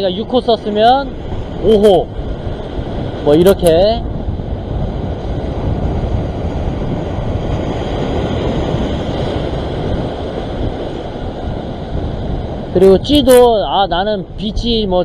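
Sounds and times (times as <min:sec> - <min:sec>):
sea surf against rocks: 0:00.0 - 0:15.0
wind buffeting microphone: 0:00.0 - 0:15.0.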